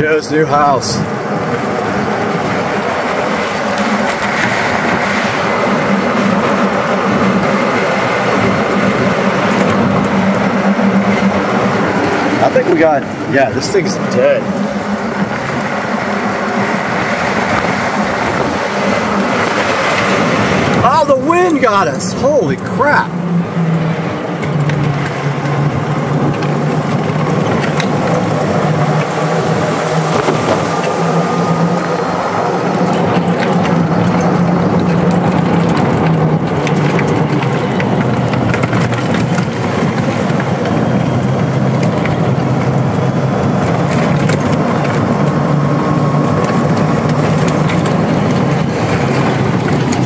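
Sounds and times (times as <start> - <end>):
wind on microphone: 0.0 - 21.3, 22.3 - 50.0
electric cart motor and tyres drone: 0.0 - 50.0
rattles and clicks of cart body: 0.0 - 50.0.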